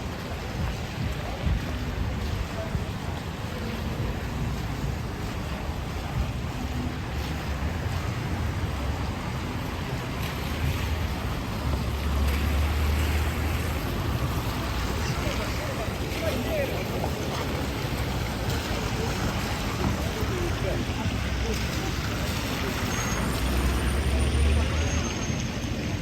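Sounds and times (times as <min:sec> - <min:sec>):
deep vehicle rumble: 0:00.0 - 0:26.0
rain: 0:00.0 - 0:26.0
traffic noise: 0:00.0 - 0:26.0.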